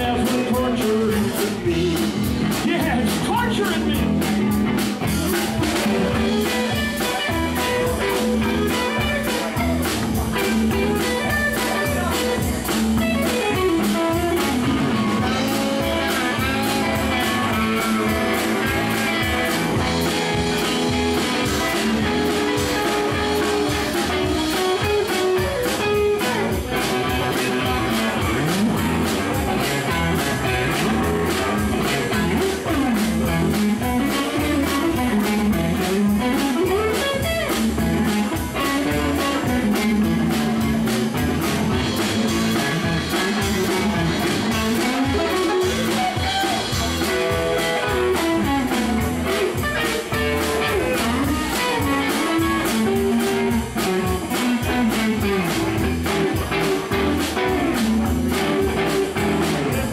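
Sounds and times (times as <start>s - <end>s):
bass guitar: 0.0s - 59.9s
drum kit beat: 0.0s - 59.9s
electric guitar with bent notes: 0.0s - 59.9s.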